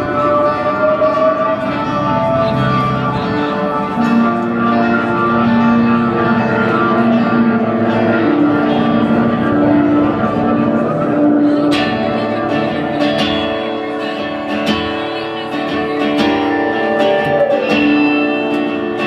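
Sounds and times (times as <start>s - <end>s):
band playing guitars: 0.0s - 19.0s.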